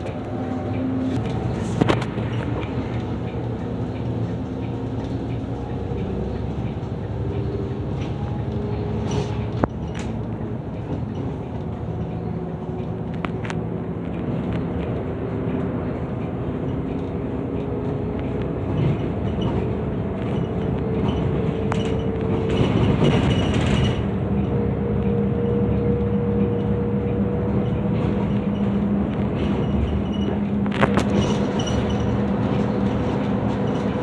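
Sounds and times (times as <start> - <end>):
bus engine humming: 0.0 - 34.0.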